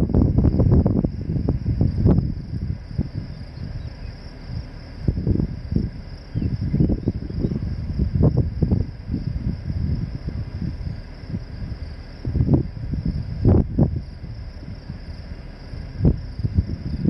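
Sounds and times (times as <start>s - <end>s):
crickets chirping: 0.0s - 17.0s
wind buffeting microphone: 0.0s - 17.0s.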